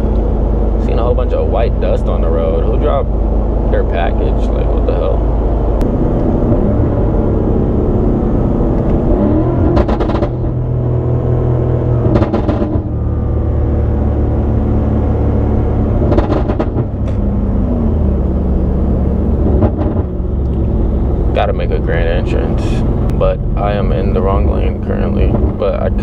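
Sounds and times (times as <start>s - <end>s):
car engine running: 0.0s - 26.0s
exhaust crackles: 0.0s - 26.0s.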